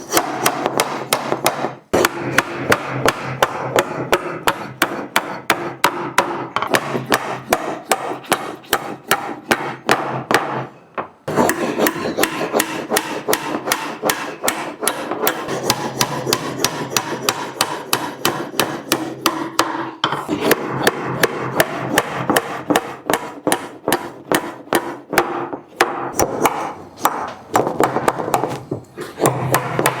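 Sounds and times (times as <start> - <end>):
hammer driving nails into wood: 0.1 - 10.7, 11.3 - 28.6.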